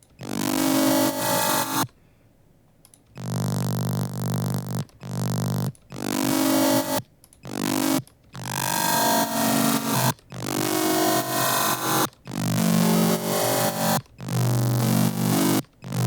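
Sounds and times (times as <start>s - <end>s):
distorted synth bass: 0.2s - 1.9s, 3.2s - 16.0s.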